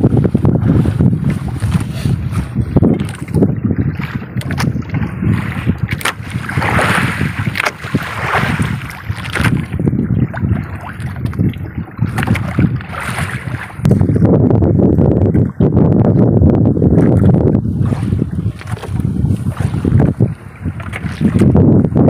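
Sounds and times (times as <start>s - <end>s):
water splashing against boat hull: 0.0s - 22.0s
wind buffeting microphone: 0.0s - 22.0s.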